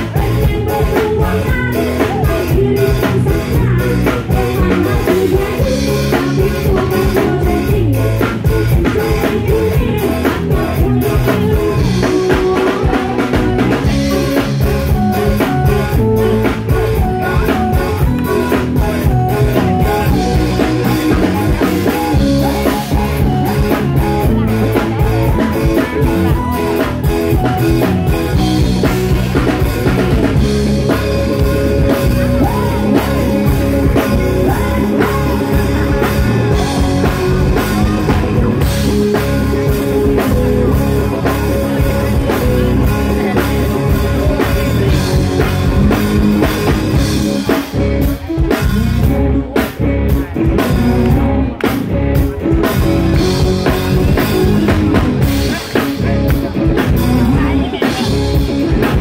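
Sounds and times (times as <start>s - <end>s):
drum kit: 0.0s - 59.0s
electric guitar: 0.0s - 59.0s
person singing: 0.0s - 59.0s.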